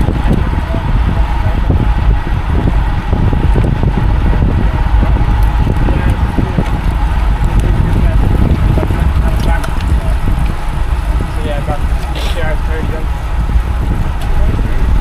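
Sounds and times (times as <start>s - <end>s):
road and tyre noise: 0.0s - 15.0s
wind buffeting microphone: 0.0s - 15.0s.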